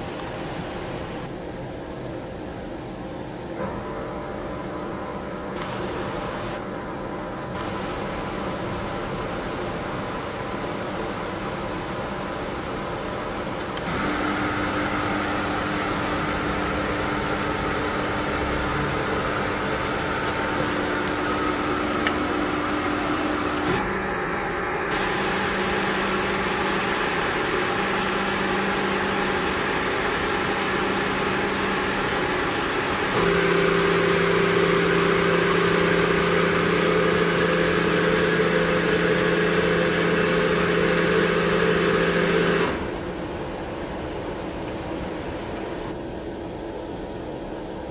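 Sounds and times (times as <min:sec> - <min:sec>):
machine spindle humming: 0:03.2 - 0:46.1.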